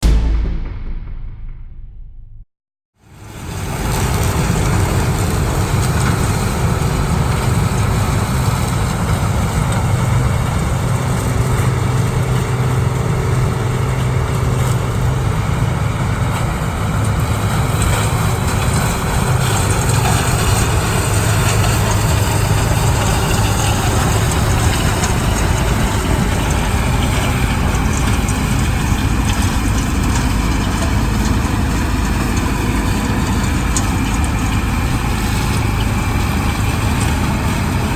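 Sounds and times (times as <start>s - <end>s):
combine harvester running: 3.3s - 37.9s.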